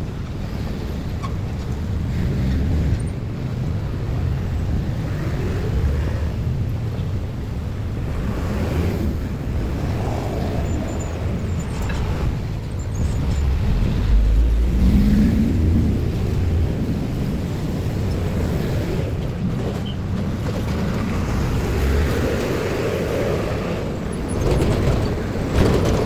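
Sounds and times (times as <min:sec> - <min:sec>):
road vehicles rumbling past: 0:00.0 - 0:26.0
wind buffeting microphone: 0:00.0 - 0:26.0.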